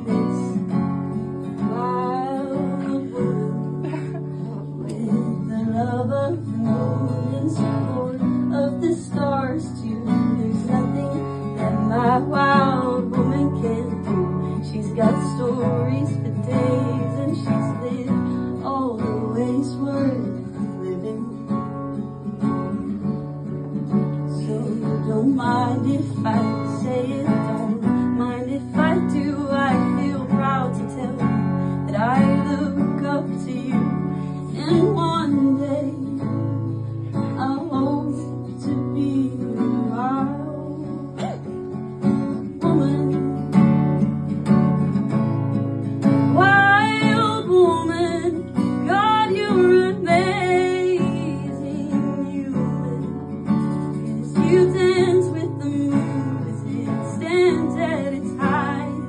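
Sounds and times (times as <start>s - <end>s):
acoustic guitar strumming: 0.0s - 59.0s
woman singing: 0.0s - 59.0s.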